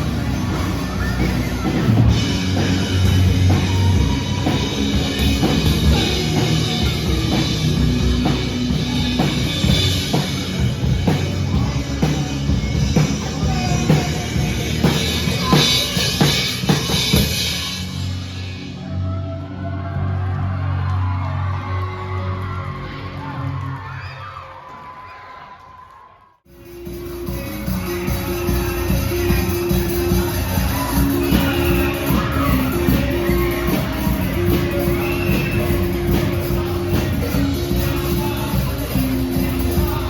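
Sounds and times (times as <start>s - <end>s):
rock band playing live: 0.0s - 19.1s, 26.5s - 40.0s.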